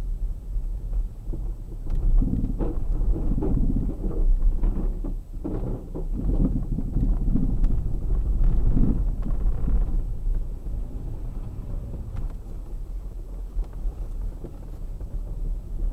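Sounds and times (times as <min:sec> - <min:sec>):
low rumble: 0:00.0 - 0:15.9.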